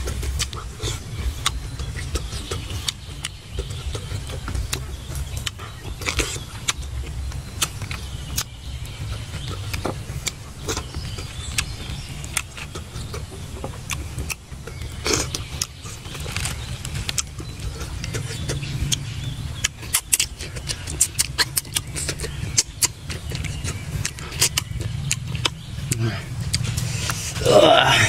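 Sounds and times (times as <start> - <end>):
man chewing fish: 0.0 - 27.7
steady low rumble: 0.0 - 28.0.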